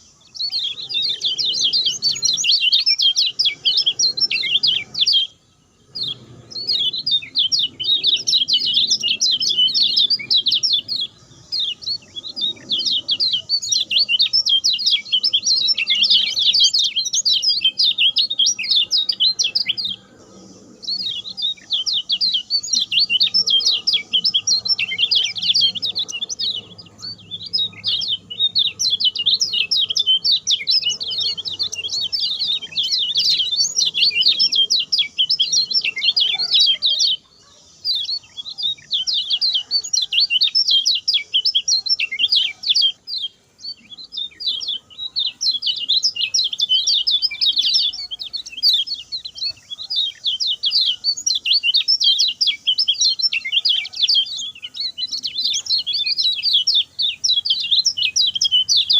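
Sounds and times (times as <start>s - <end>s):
songbird rapid high chirps: 0.0s - 58.9s.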